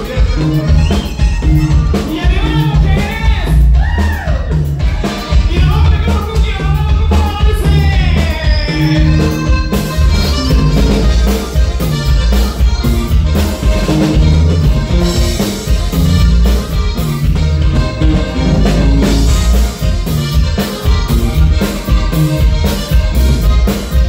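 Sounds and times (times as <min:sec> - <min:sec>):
button accordion: 0:00.0 - 0:03.8, 0:04.5 - 0:24.0
live band playing dance music: 0:00.0 - 0:24.0.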